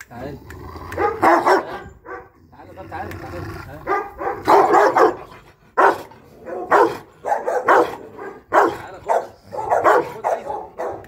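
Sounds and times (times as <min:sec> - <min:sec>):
large dog barking: 0:00.8 - 0:11.0.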